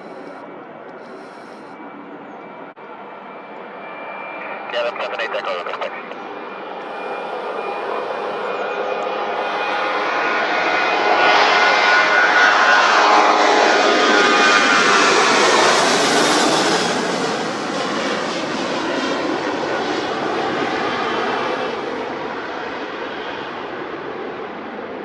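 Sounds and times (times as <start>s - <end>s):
jet airliner engines roaring: 0.0s - 25.0s
jet engine whine: 0.0s - 25.0s.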